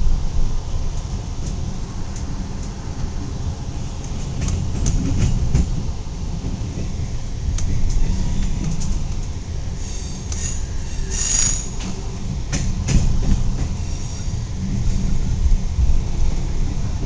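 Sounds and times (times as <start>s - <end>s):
train wheels rumbling on track: 0.0s - 17.0s
wheels clacking over rail joints: 0.9s - 17.0s.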